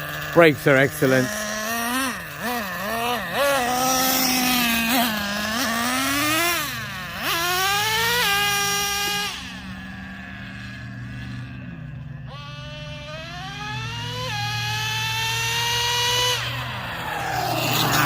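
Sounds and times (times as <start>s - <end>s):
model truck engine revving: 0.0s - 18.0s.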